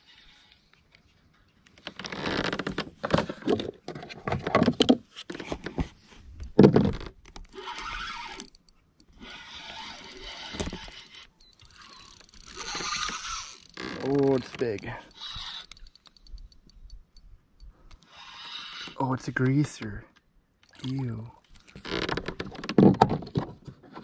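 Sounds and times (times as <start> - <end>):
fishing rod scraping and knocking: 0.0 - 20.0.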